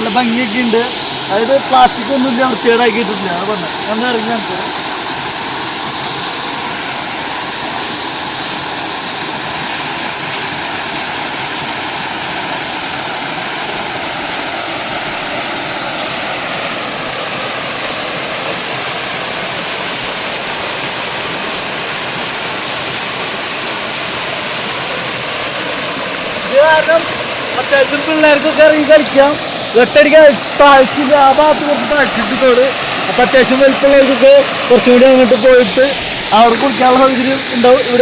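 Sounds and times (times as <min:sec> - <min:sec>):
waterfall rushing and splashing: 0:00.0 - 0:38.0.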